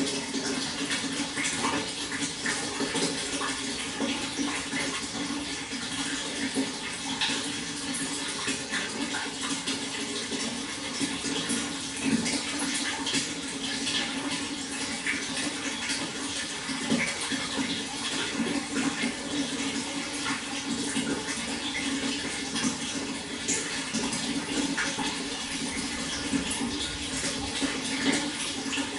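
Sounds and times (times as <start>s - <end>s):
water flowing and bubbling: 0.0s - 28.9s.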